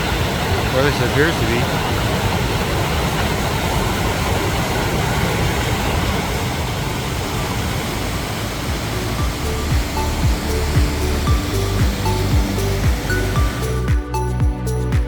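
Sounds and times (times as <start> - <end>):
waterfall roaring: 0.0 - 13.8.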